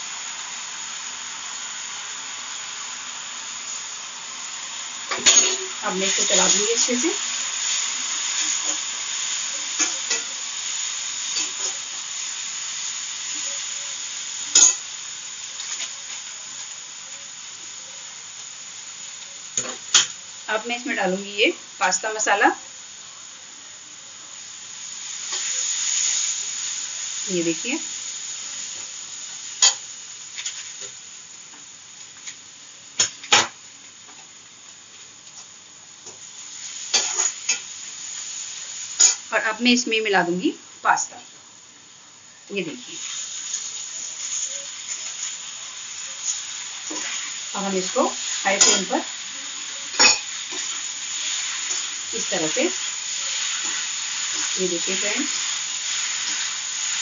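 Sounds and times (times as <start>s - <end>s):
vegetables sizzling in a pan: 0.0s - 57.0s.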